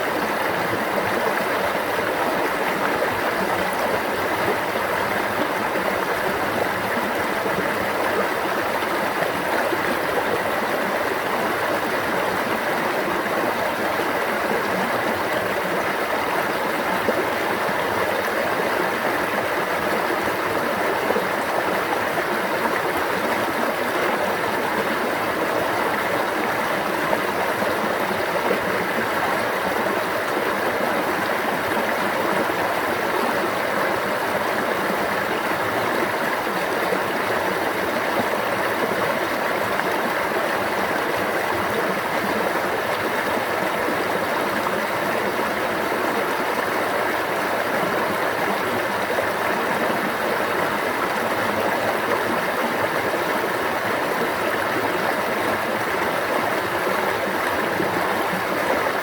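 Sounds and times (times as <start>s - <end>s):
running water stream: 0.0s - 59.0s.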